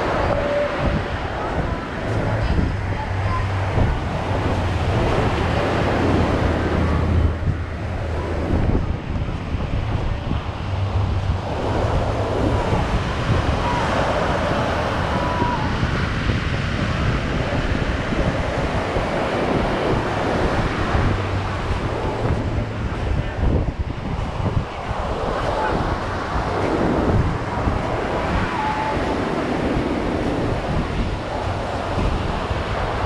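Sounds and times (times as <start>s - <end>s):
ocean surf breaking on beach: 0.0s - 33.0s
wind buffeting microphone: 0.0s - 33.0s.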